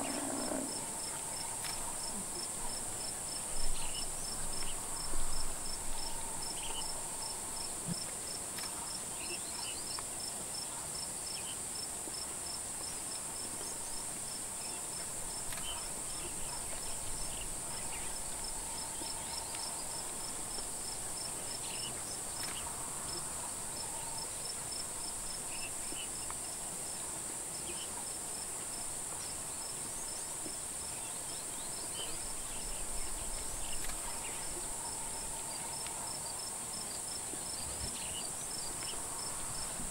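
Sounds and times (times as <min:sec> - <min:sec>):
insect chirping: 0:00.0 - 0:10.3, 0:11.3 - 0:27.0, 0:27.6 - 0:39.9
insects droning: 0:00.0 - 0:39.9.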